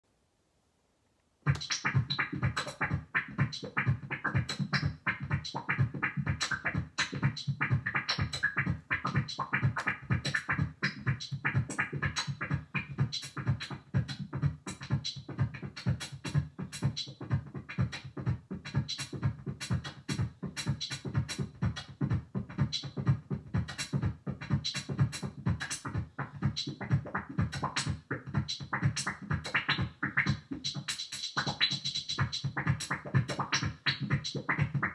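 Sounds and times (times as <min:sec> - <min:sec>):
drum machine electronic beat: 0:01.4 - 0:34.9.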